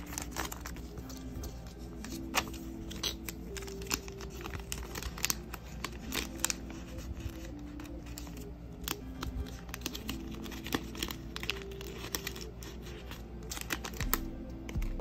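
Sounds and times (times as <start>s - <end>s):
plastic sleeves crinkling: 0.0s - 15.0s.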